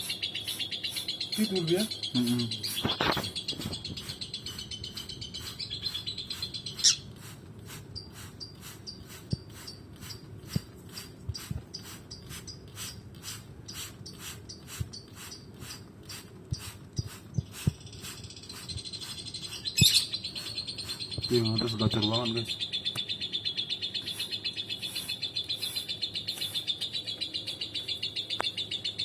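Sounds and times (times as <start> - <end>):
lovebirds chattering: 0.0 - 29.0.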